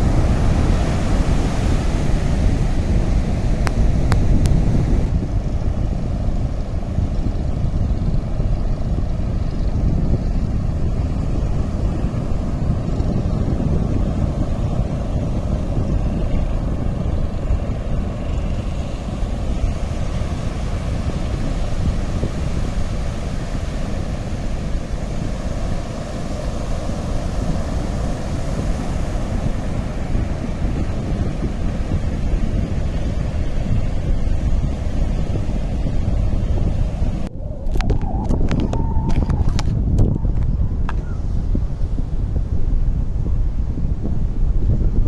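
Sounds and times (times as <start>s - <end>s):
sea surf on beach: 0.0s - 45.0s
wind buffeting microphone: 0.0s - 45.0s.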